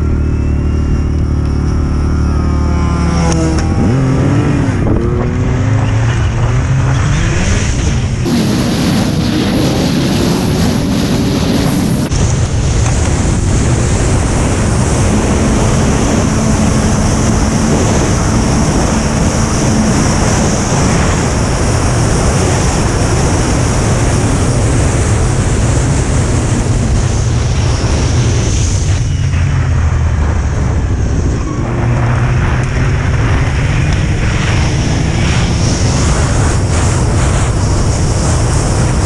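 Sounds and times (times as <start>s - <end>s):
snowmobile engine: 0.0s - 39.0s
wind buffeting microphone: 3.4s - 39.0s.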